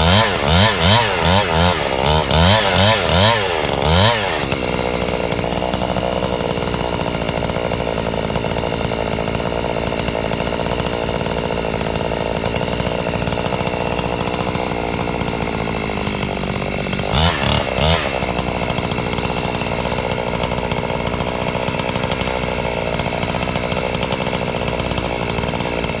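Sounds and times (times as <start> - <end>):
chainsaw cutting log: 0.0 - 26.0.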